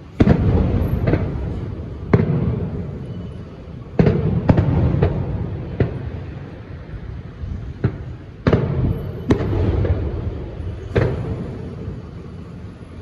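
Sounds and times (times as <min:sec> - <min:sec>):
fireworks bangs with rumbling echo: 0:00.0 - 0:13.0.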